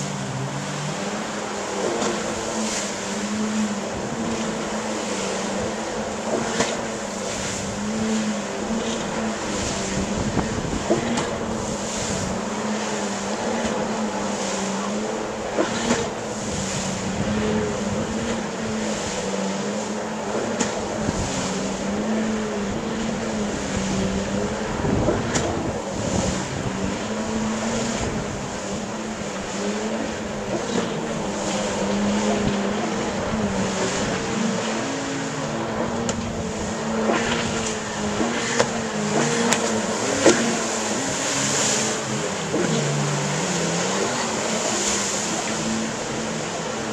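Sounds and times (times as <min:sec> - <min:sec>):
jet ski engines: 0:00.0 - 0:46.9.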